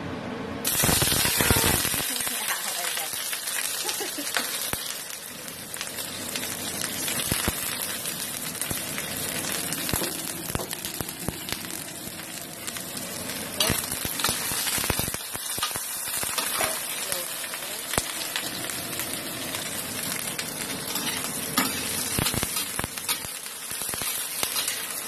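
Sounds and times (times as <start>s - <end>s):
onions sizzling in oil: 0.6s - 25.0s.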